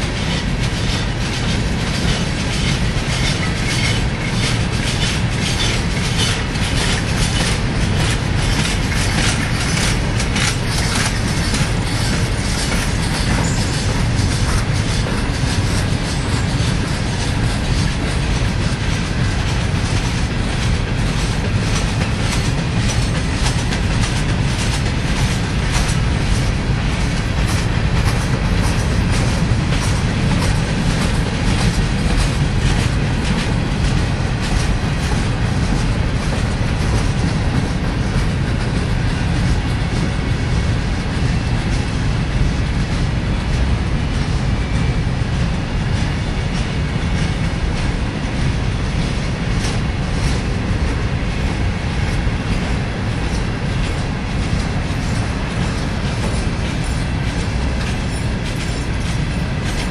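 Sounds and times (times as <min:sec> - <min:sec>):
train wheels rumbling on rail: 0:00.0 - 0:59.9
wheels clicking over rail joints: 0:00.1 - 0:59.9.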